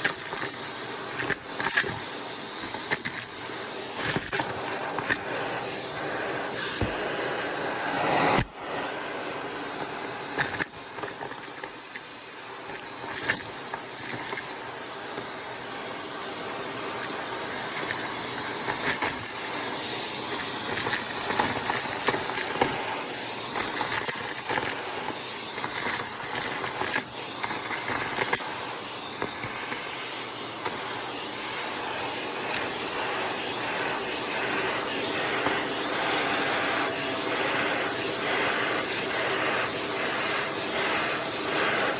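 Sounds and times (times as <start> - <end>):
debris crackling up vacuum tool: 0.0 - 9.0, 9.6 - 15.3, 16.9 - 19.6, 20.2 - 29.9, 30.6 - 41.9
vacuum cleaner suction hiss: 0.0 - 41.9.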